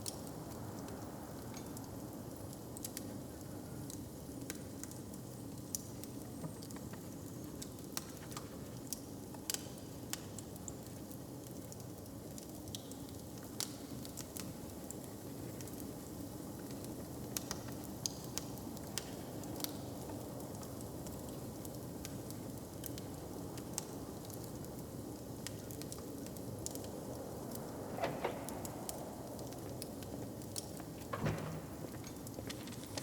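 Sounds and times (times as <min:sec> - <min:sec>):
open fire crackling and popping: 0:00.0 - 0:33.0.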